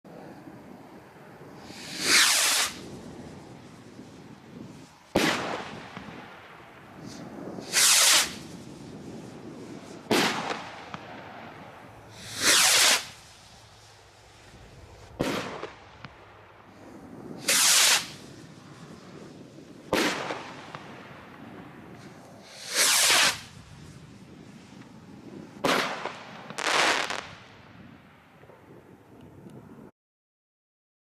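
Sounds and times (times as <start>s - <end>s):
firework rocket whooshes: 0.1s - 28.8s
firework bangs: 1.4s - 28.7s.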